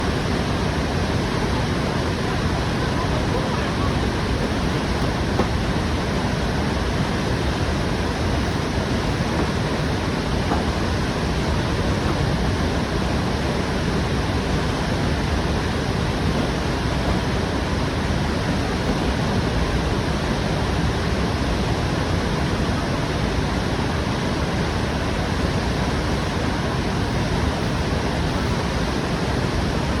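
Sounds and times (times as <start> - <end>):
whitewater rapids rushing: 0.0 - 29.8.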